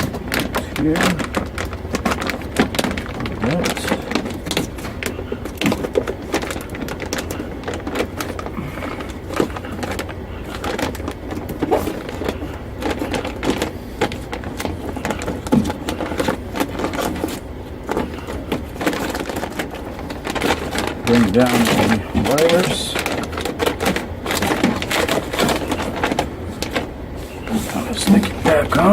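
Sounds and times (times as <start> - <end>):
plastic crinkling and clicking: 0.0 - 28.9.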